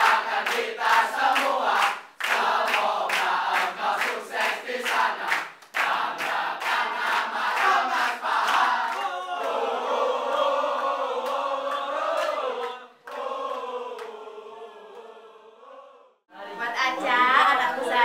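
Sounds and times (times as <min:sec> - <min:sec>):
rhythmic clapping: 0:00.0 - 0:15.1
group singing in unison: 0:00.0 - 0:18.0.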